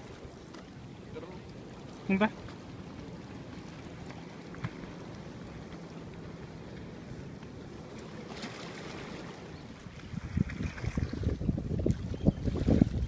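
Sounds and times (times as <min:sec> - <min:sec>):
surf washing around rocks: 0:00.0 - 0:13.0
wind buffeting microphone: 0:00.0 - 0:13.0.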